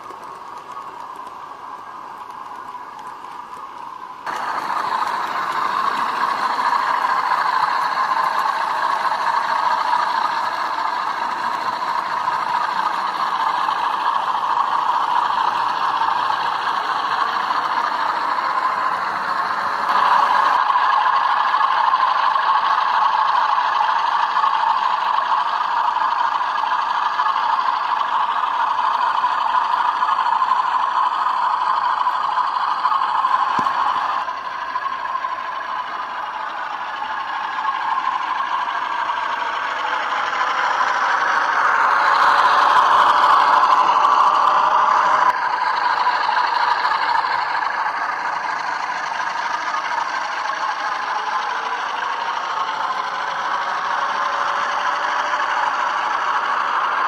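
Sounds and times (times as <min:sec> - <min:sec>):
model train rattling on track: 0:00.0 - 0:57.0.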